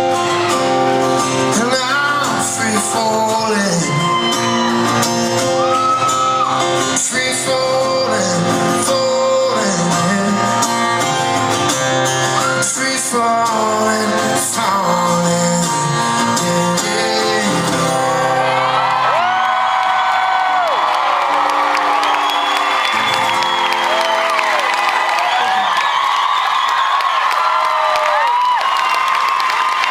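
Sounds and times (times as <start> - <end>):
live band with guitar and singing: 0.0 - 19.3, 21.4 - 27.0.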